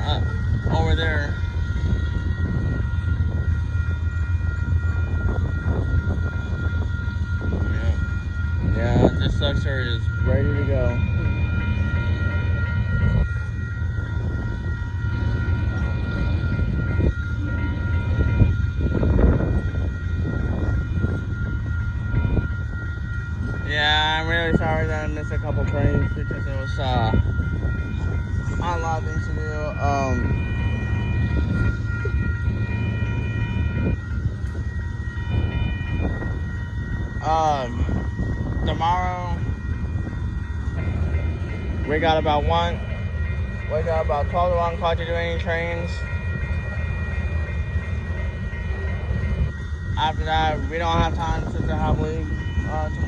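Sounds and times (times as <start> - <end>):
diesel locomotive rumble: 0.0 - 53.0
high whine: 0.0 - 53.0.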